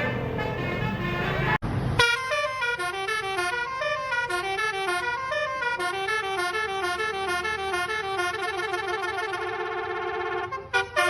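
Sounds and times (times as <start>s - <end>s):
multi-tone bus horn melody: 0.0s - 11.0s.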